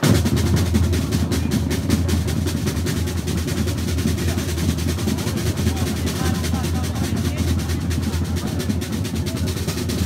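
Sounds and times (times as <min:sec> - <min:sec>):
snare drums rolling: 0:00.0 - 0:10.0.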